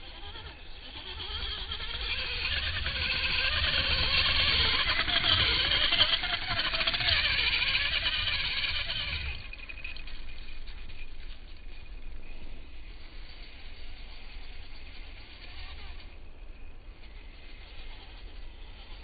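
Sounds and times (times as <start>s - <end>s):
rc buggy motor whine: 0.0s - 19.0s.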